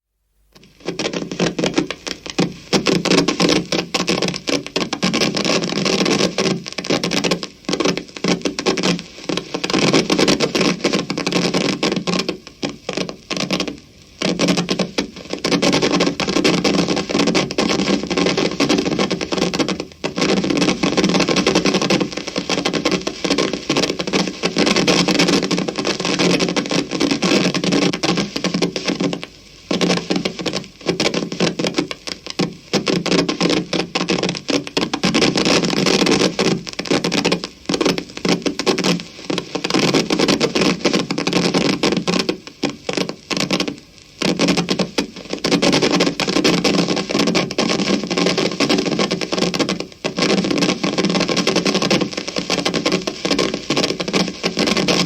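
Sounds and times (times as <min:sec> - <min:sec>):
amplifier crackling static: 0:00.0 - 0:55.0.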